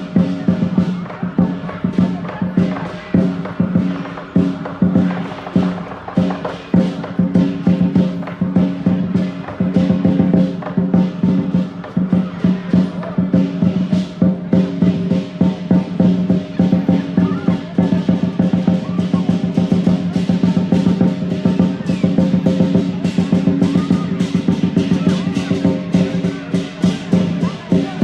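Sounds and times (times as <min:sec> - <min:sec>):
cymbals clashing: 0:00.0 - 0:28.0
drum beating: 0:00.0 - 0:28.0.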